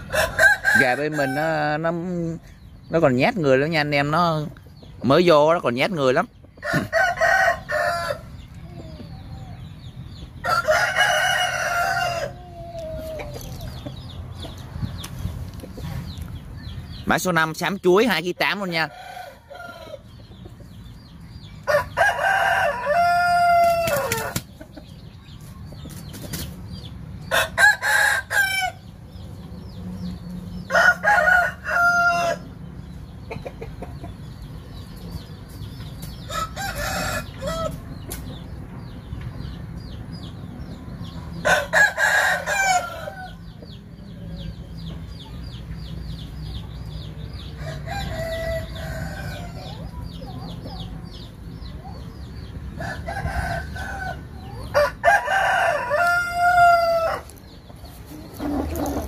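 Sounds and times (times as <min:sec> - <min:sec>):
roosters crowing: 0:00.0 - 0:25.1, 0:26.8 - 0:40.2, 0:41.0 - 0:59.0.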